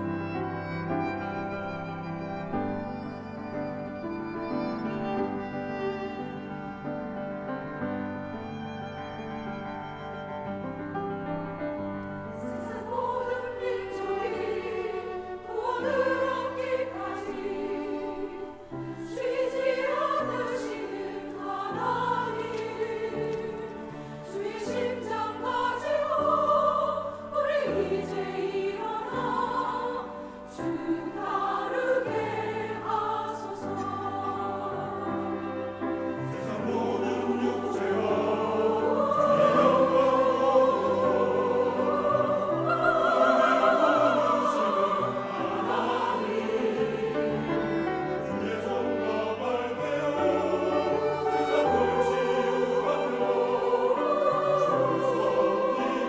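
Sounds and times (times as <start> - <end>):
choir singing with accompaniment: 0.0 - 56.0.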